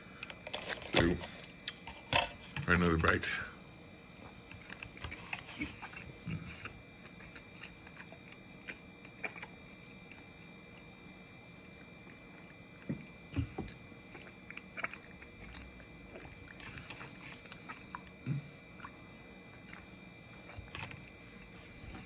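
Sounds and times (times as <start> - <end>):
man chewing and swallowing: 4.2 - 22.0.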